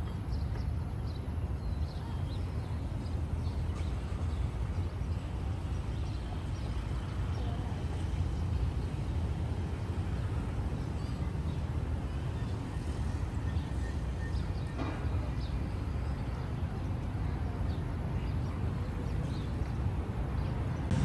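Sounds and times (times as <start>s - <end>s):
low city rumble: 0.0s - 21.0s.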